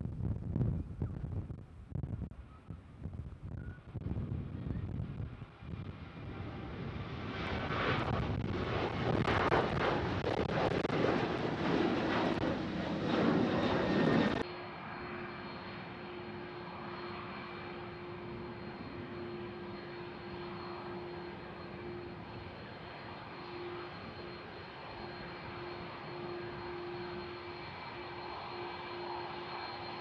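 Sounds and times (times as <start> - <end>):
jet engine low whine: 0.0 - 30.0
jet engines roaring: 2.9 - 30.0.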